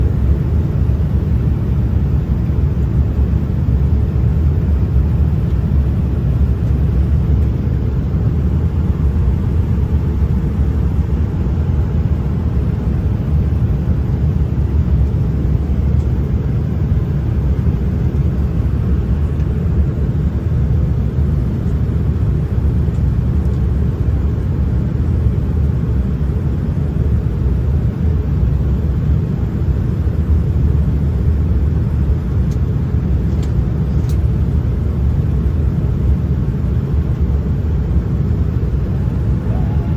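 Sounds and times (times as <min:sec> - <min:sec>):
airplane rumble in flight: 0:00.0 - 0:39.9.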